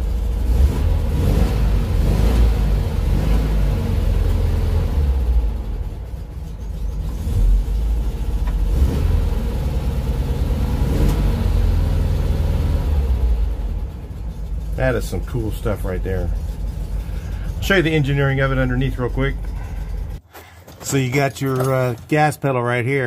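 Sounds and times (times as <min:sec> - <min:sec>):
engine running at raised idle: 0:00.0 - 0:20.2.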